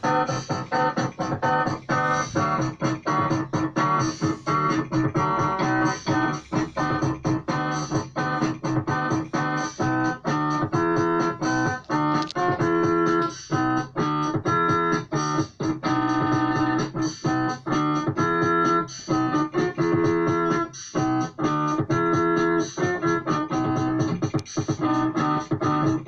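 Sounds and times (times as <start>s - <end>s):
keyboard chords instrumental: 0.0s - 26.0s.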